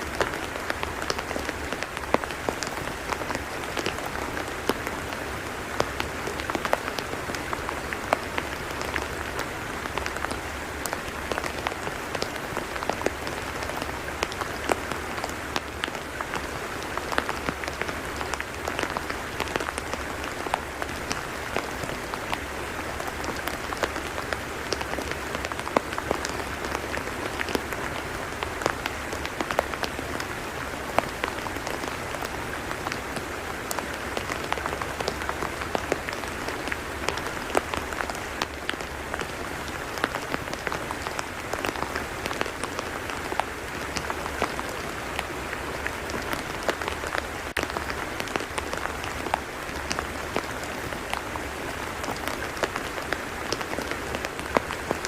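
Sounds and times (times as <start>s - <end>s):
rain falling on mud: 0.0s - 55.0s.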